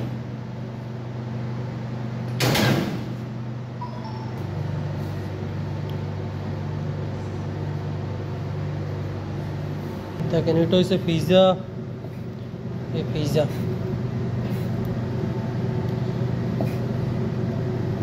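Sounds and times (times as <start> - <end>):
electric hum of machinery: 0.0 - 18.0.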